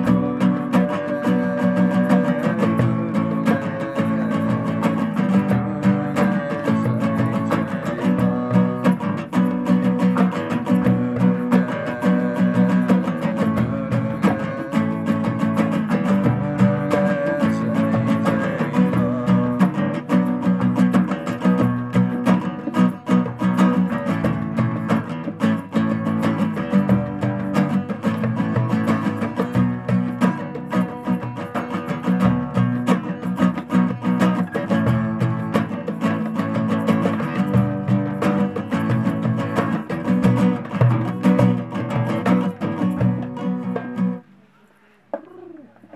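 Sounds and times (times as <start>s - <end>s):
frame drum and hand drum beats: 0.0s - 44.3s
acoustic guitar strumming: 0.0s - 44.7s.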